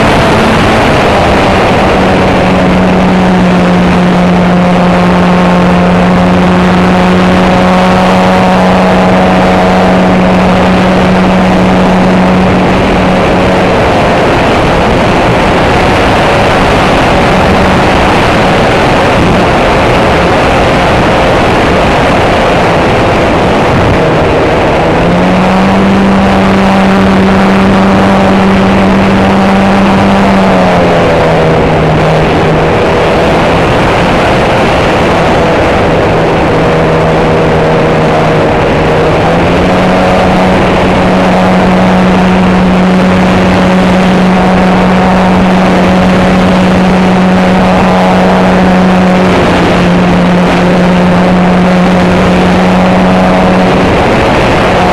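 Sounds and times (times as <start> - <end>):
model plane engine droning: 0.0 - 54.9
wind buffeting microphone: 0.0 - 54.9.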